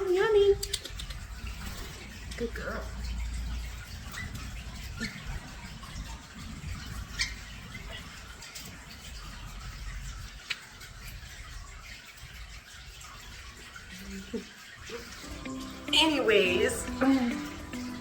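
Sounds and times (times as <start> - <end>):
starlings chirping: 1.1 - 13.9, 14.5 - 18.0.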